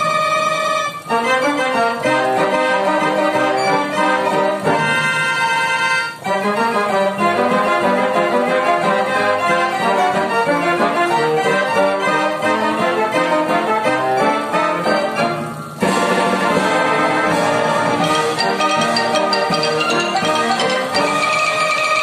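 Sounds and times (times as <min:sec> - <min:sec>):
orchestrion playing ragtime: 0:00.0 - 0:22.0.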